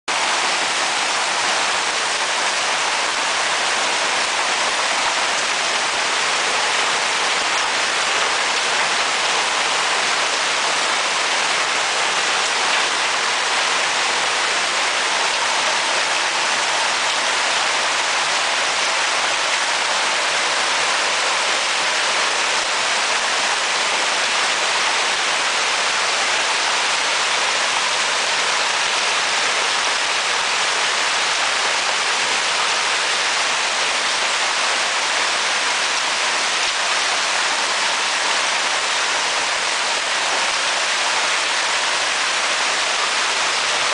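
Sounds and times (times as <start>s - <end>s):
hail and rain falling: 0.1s - 43.9s.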